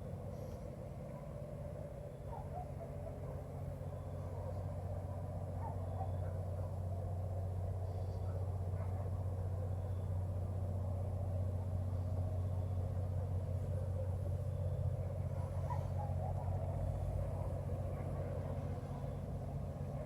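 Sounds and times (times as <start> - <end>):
diesel locomotive engine humming: 0.0 - 20.0.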